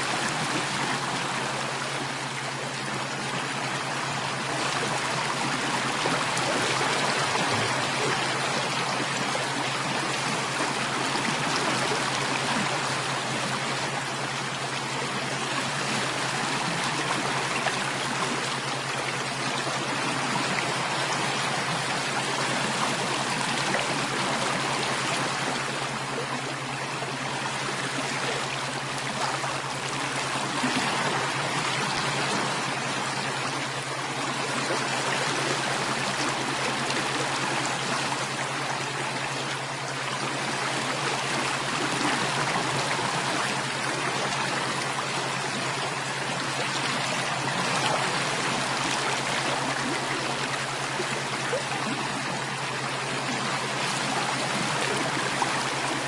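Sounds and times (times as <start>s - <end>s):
constant low hum: 0.0s - 56.0s
stream running water: 0.0s - 56.0s.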